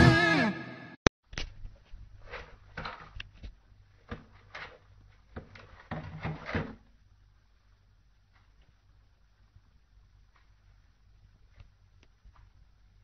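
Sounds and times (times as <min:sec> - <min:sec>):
faint low hum: 0:01.3 - 0:13.0.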